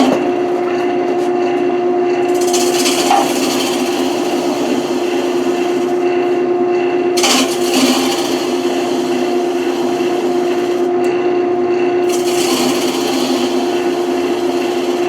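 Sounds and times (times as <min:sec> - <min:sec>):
turning tool scraping wood: 0:00.0 - 0:01.4, 0:02.3 - 0:06.4, 0:07.2 - 0:11.0, 0:12.0 - 0:15.0
wood lathe motor hum: 0:00.0 - 0:11.2, 0:12.0 - 0:15.0.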